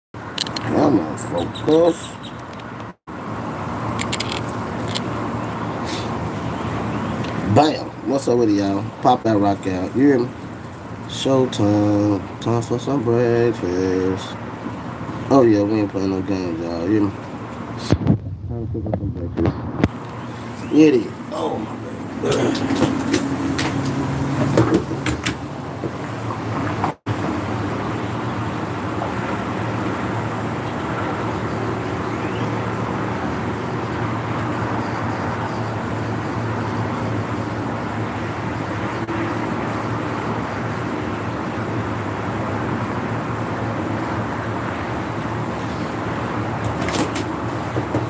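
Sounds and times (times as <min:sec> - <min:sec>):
low vehicle hum: 0:00.2 - 0:48.0.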